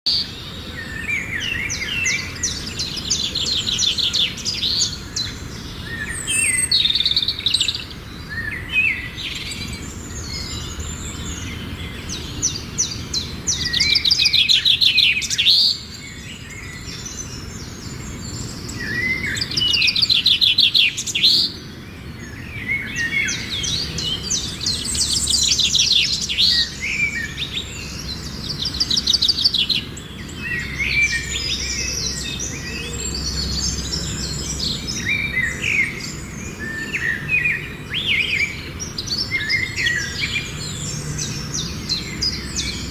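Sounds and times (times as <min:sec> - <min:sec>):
songbird trilling and warbling: 0:00.1 - 0:42.9.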